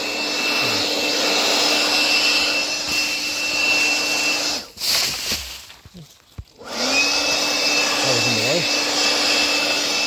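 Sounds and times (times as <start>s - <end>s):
leaf blower whining: 0.0s - 10.0s.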